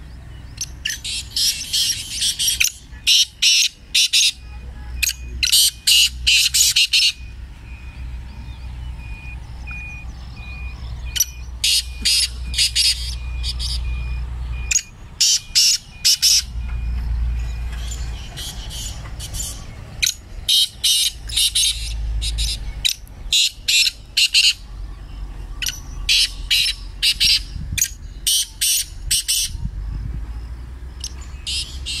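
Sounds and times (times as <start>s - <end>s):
birds calling shrilly: 0.0s - 32.0s.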